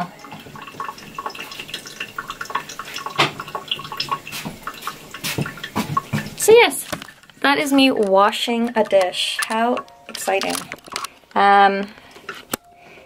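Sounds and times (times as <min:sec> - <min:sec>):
water dripping in a sink: 0:00.0 - 0:11.5.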